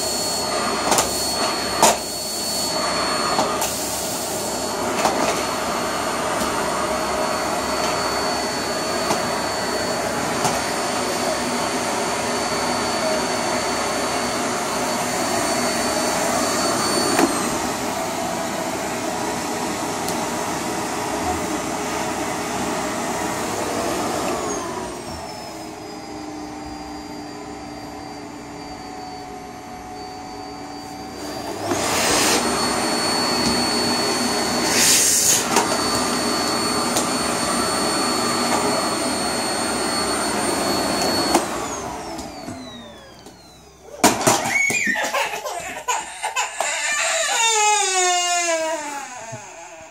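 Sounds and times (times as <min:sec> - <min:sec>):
vacuum cleaner motor whining: 0:00.0 - 0:49.9.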